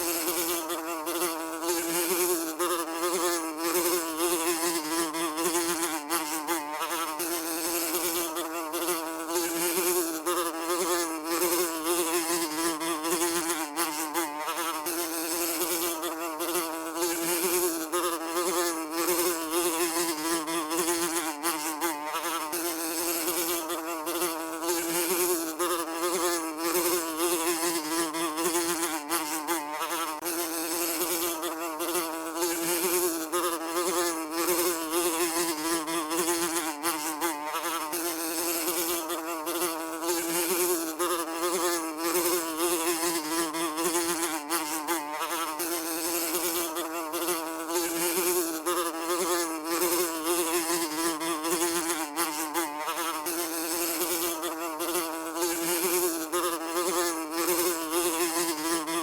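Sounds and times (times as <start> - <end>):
housefly buzzing: 0.0 - 59.0.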